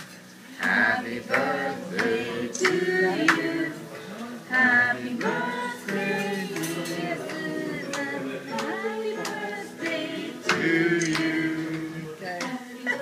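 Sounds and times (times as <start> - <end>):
people singing a birthday song: 0.0 - 13.0.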